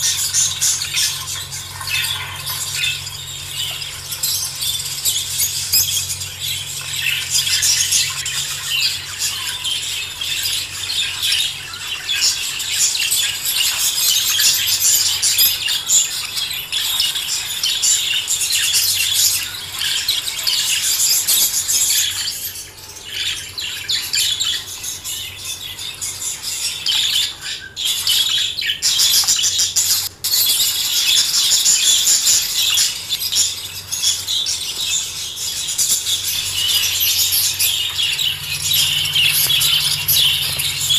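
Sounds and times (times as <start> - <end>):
flock of parakeets chirping: 0.0 - 40.9.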